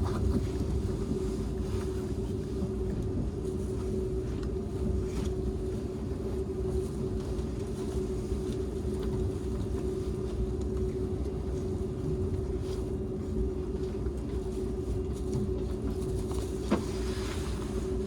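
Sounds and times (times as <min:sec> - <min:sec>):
train cabin running noise: 0:00.0 - 0:18.0.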